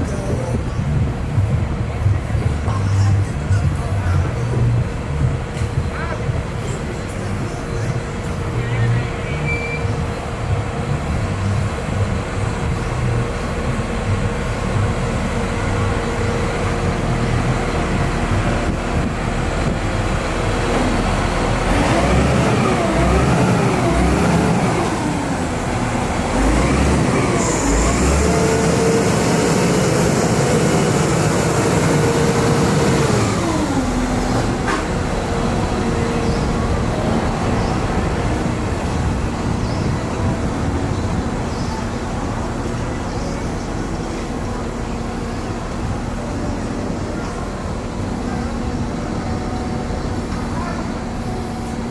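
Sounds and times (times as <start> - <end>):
vehicle engine shifting gears: 0.0 - 51.9.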